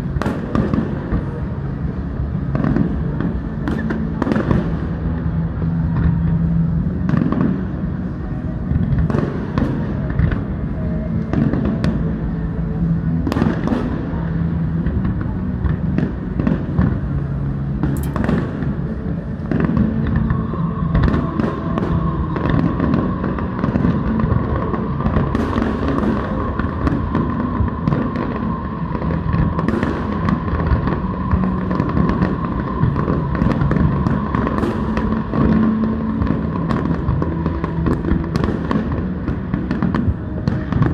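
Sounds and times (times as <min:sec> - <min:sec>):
fireworks bangs and crackles: 0:00.0 - 0:40.9
fireworks rumble: 0:00.0 - 0:40.9.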